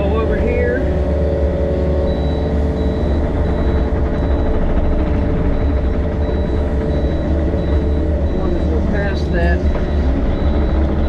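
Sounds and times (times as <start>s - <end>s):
diesel engine running: 0.0s - 11.0s
high-pitched alarm beeping: 1.7s - 11.0s.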